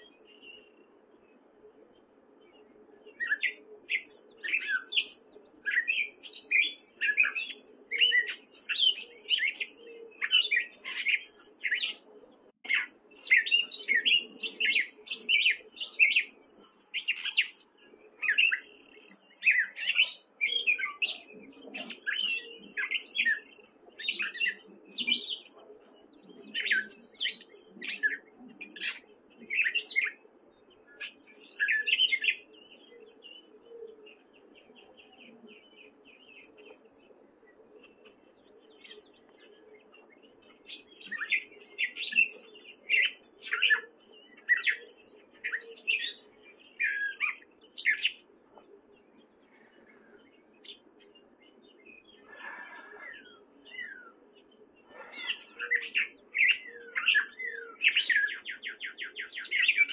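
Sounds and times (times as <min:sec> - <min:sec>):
catbird singing: 0:00.0 - 0:59.9.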